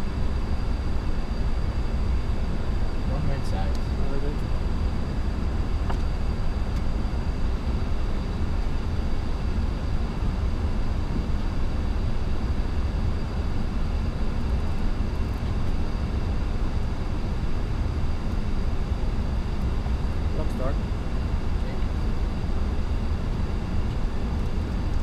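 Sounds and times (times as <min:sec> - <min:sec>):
aircraft cockpit noise: 0:00.0 - 0:25.0.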